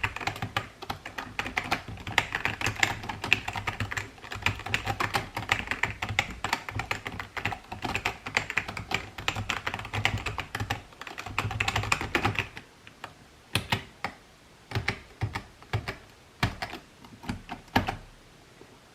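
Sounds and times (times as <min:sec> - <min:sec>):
computer keyboard typing: 0:00.0 - 0:12.6, 0:13.5 - 0:18.1.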